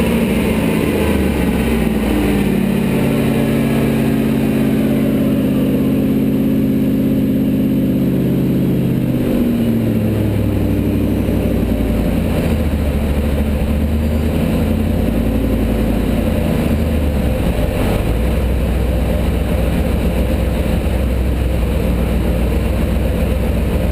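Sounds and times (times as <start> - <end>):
supercharged engine idling: 0.0 - 23.9.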